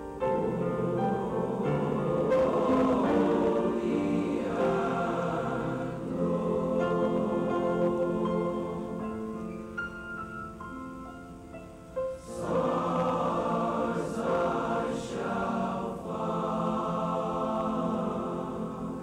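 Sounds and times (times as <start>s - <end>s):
choir singing: 0.0s - 9.8s, 12.1s - 19.0s.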